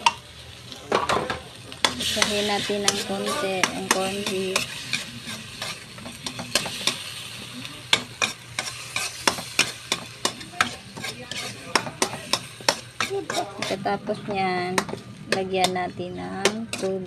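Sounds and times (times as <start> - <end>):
meat sizzling in oil: 0.0 - 17.0
metal spatula scraping a pan: 1.8 - 17.0.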